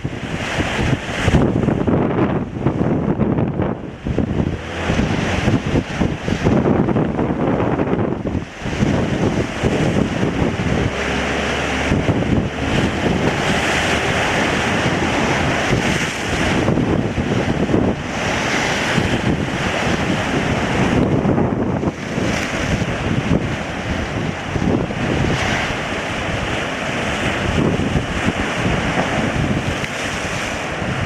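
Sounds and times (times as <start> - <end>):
strong gusty wind: 0.0 - 31.0
wind buffeting microphone: 0.0 - 31.0.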